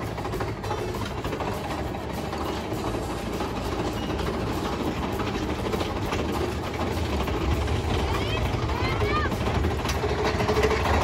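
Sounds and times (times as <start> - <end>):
roller coaster rattling on track: 0.0 - 11.0.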